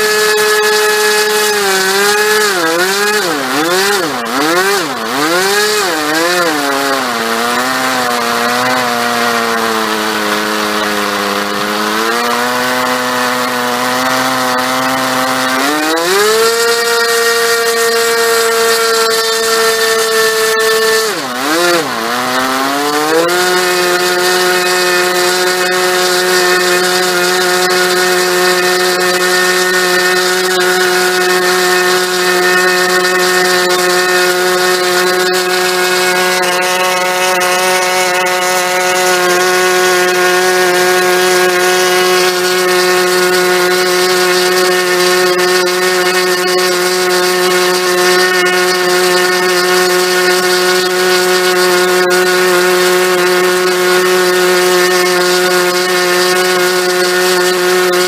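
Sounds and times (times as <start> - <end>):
model engine buzzing: 0.0 - 58.0.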